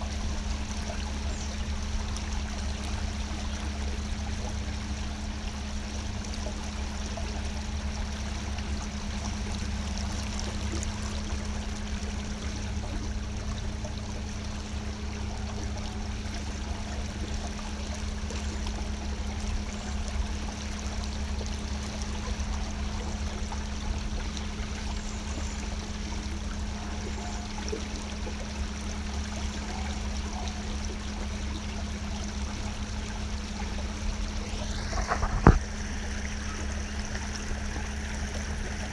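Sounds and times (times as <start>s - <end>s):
boat engine drone: 0.0s - 38.9s
water rushing: 0.0s - 38.9s.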